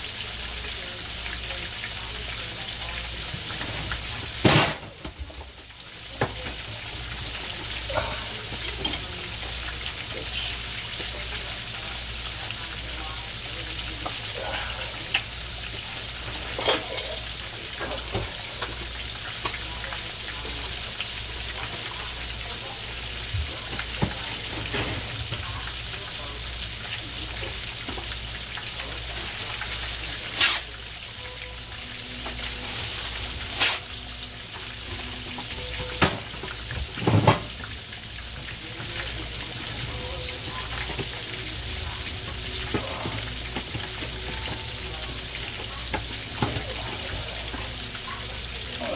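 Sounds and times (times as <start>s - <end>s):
chicken sizzling in hot oil: 0.0s - 48.9s.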